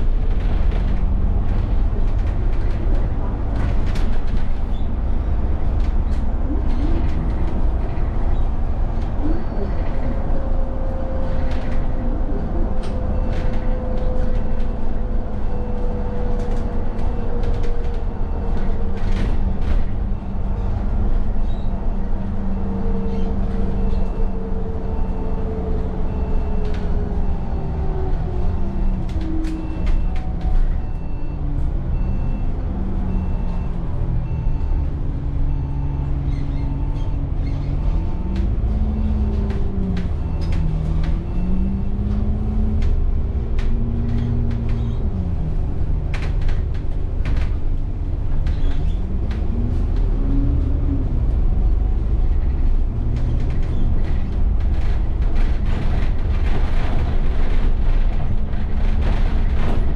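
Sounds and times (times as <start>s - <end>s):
clicks and knocks from bus body: 0.0s - 10.6s, 11.2s - 32.6s, 34.5s - 59.9s
bus engine and drivetrain: 0.0s - 59.9s.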